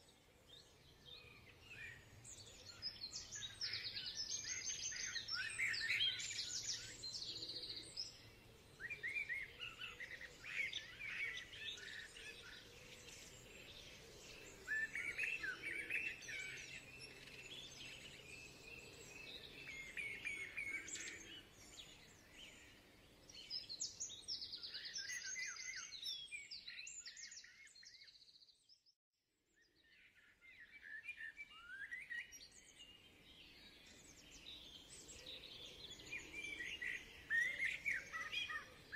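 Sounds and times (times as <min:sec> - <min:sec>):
songbirds chirping and singing: 0:00.0 - 0:28.8, 0:29.4 - 0:38.9.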